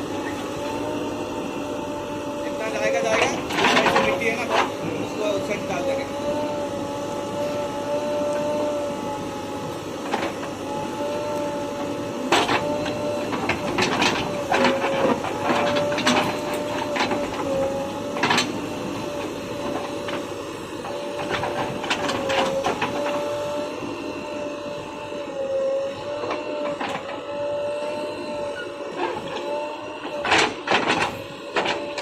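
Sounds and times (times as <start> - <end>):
bulldozer whine: 0.0 - 32.0.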